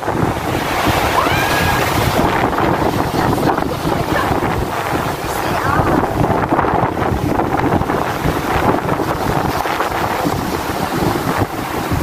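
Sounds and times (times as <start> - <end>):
waves splashing against concrete: 0.0 - 12.0
wind buffeting microphone: 0.0 - 12.0.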